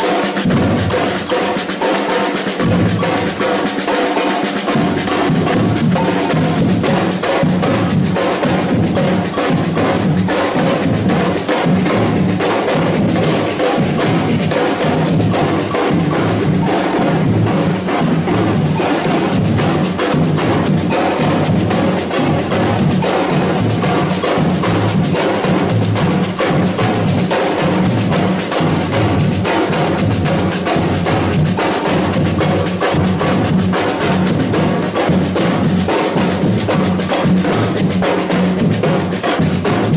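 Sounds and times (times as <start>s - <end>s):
drum band playing: 0.0s - 39.9s.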